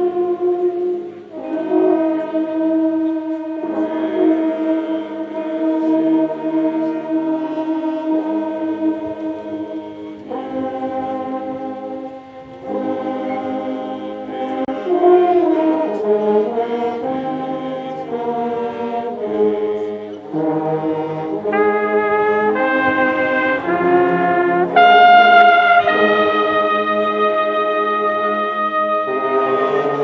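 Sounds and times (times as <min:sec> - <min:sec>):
brass band playing slow melody: 0:00.0 - 0:30.0.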